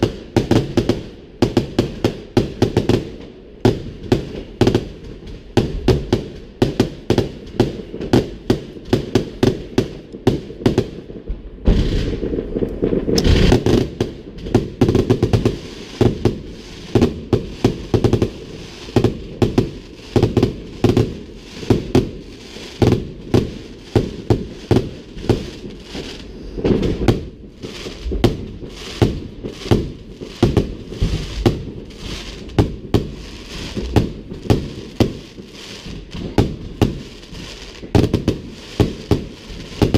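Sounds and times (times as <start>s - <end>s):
fireworks bangs: 0.0s - 39.9s
fireworks booming and crackling: 0.0s - 39.9s.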